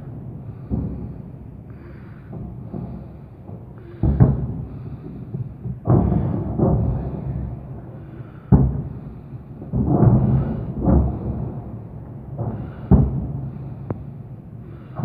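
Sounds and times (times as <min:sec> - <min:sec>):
distant artillery booms: 0:00.0 - 0:15.0.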